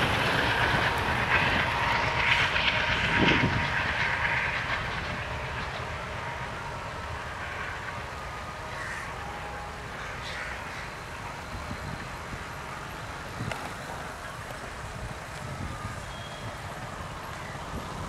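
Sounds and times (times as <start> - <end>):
diesel train rumble: 0.0 - 18.0.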